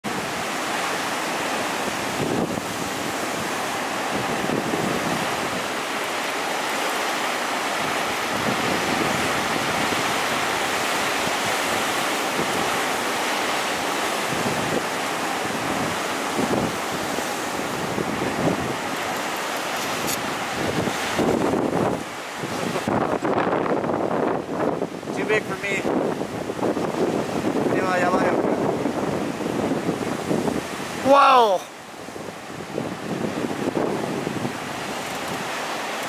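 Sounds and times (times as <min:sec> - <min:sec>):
wind buffeting microphone: 0:00.0 - 0:31.2, 0:31.8 - 0:36.0
ocean surf washing: 0:00.0 - 0:36.0.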